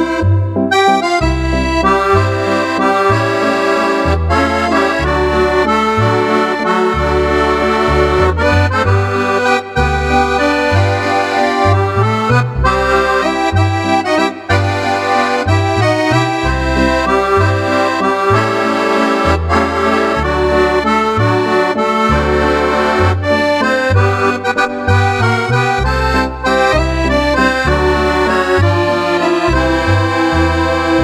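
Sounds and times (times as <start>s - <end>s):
accordion playing a tune: 0.0s - 31.0s.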